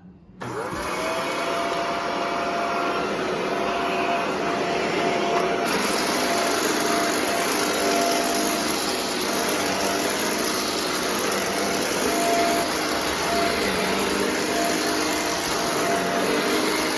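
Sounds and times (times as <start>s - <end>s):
vacuum cleaner motor whine: 0.4s - 16.9s.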